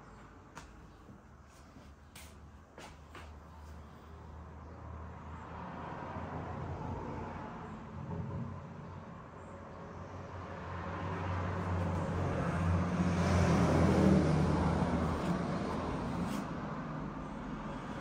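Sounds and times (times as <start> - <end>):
passing road vehicle rumble: 2.0 - 18.0.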